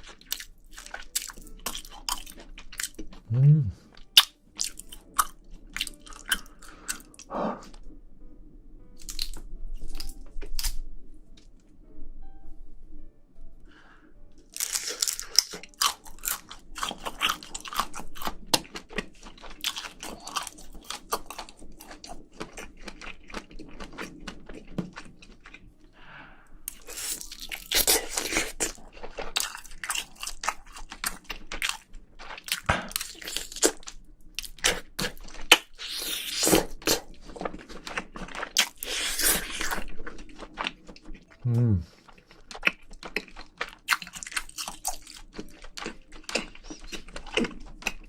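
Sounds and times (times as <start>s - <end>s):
person chewing and crunching: 0.0s - 7.9s, 9.0s - 10.8s, 14.4s - 25.8s, 26.7s - 48.0s.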